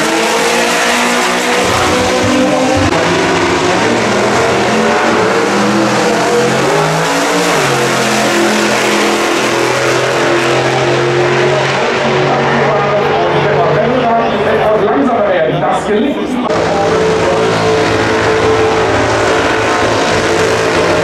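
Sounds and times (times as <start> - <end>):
drag racing engines roaring: 0.0 - 21.0.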